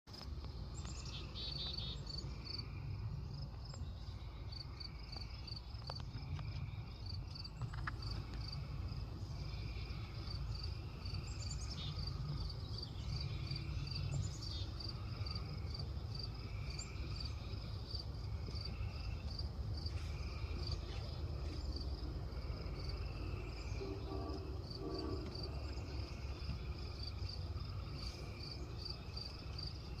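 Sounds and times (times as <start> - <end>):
insects chirping: 0.1 - 30.0
slow pulsing insect call: 0.1 - 30.0.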